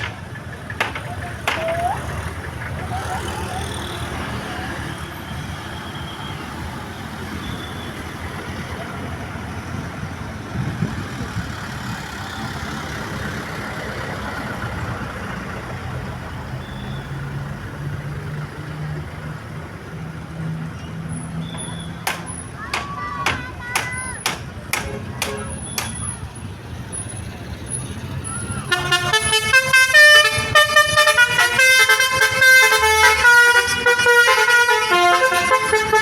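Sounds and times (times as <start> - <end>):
heavy vehicle engine drone: 0.0 - 6.0, 6.6 - 36.0
roadside traffic noise: 0.0 - 36.0.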